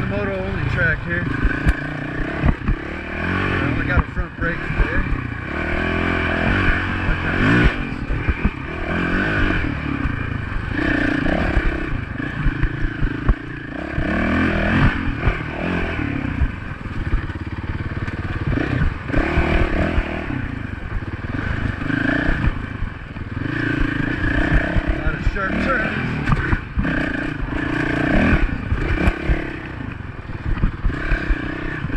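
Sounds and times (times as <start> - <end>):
bike rattling over rough trail: 0.0 - 31.9
dirt bike engine revving: 0.0 - 31.9.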